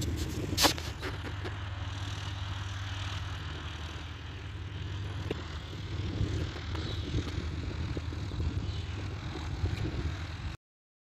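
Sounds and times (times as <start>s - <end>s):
distant propeller aircraft droning: 0.0s - 10.6s.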